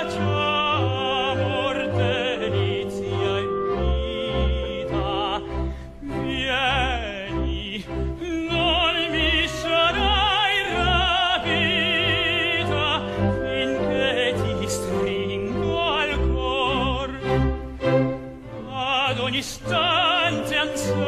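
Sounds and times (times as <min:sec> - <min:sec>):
person singing operatically: 0:00.0 - 0:17.5, 0:18.6 - 0:21.0
orchestral accompaniment: 0:00.0 - 0:21.0.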